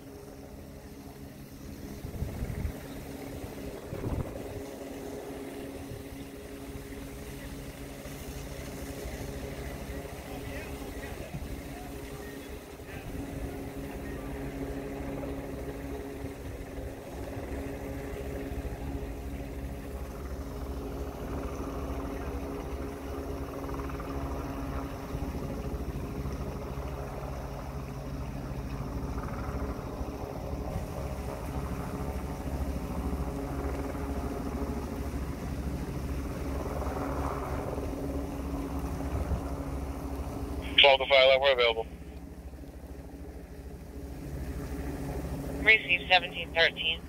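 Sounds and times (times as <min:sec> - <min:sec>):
engine running steadily: 0:00.0 - 0:47.0.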